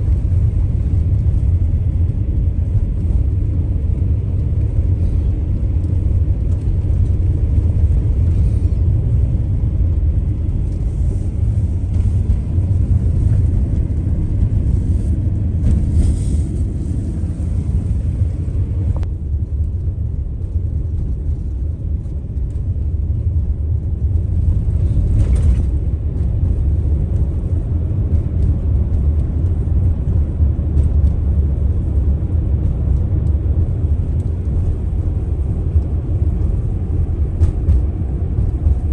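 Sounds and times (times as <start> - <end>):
motor vehicle low rumble: 0.0 - 38.9.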